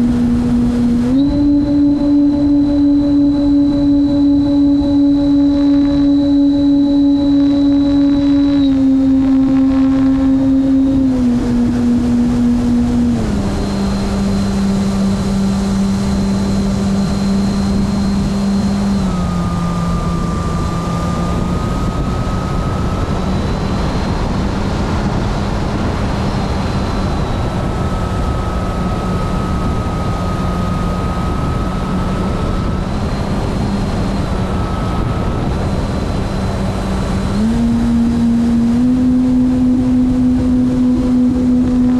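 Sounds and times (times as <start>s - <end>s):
model airplane motor droning: 0.0s - 41.9s.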